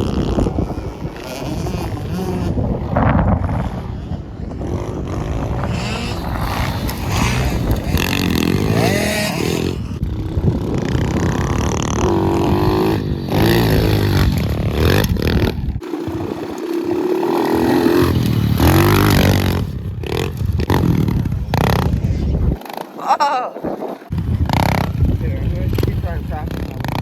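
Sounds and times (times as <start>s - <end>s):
motorbike engine revving: 0.0s - 27.0s
wind noise: 0.0s - 27.0s.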